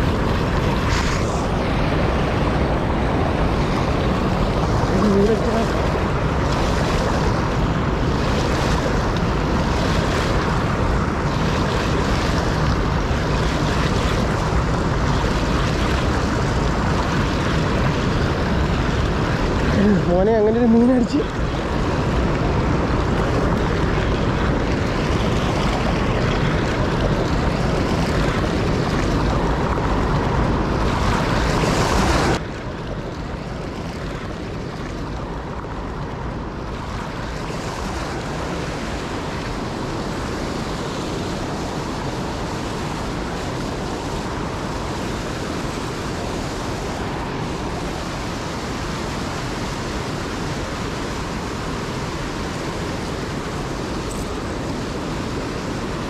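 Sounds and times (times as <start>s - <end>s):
rushing water: 0.0s - 56.0s
wind: 0.0s - 56.0s.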